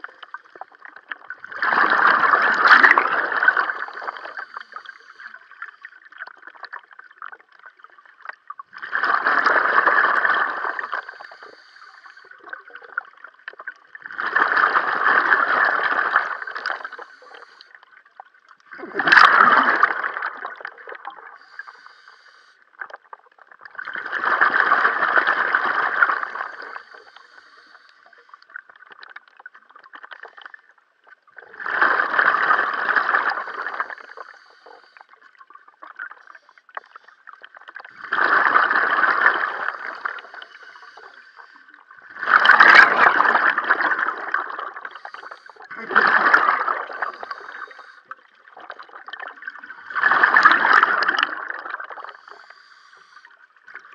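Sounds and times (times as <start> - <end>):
underwater breath bubbles gurgling: 0.0 - 53.9.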